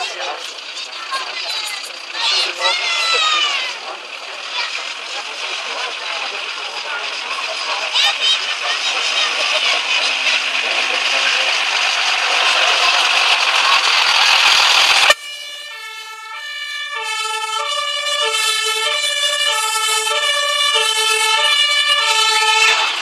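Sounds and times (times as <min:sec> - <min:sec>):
two-tone fire engine siren: 0:00.0 - 0:23.0.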